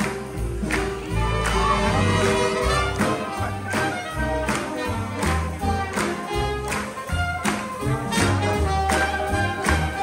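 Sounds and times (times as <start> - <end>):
swing band playing jazz: 0.0 - 10.0.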